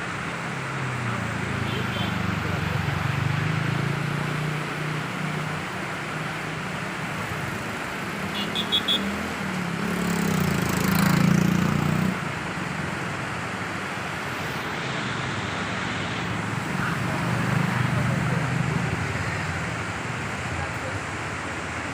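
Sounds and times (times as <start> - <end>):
motor vehicle road noise: 0.0 - 21.9.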